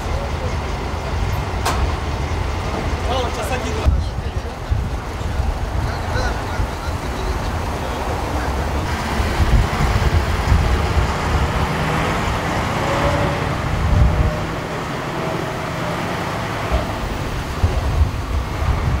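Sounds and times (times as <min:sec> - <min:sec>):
diesel trucks driving past: 0:00.0 - 0:19.0.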